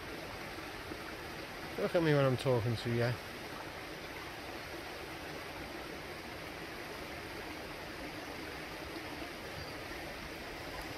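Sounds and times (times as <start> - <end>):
river water flowing: 0.0 - 10.9.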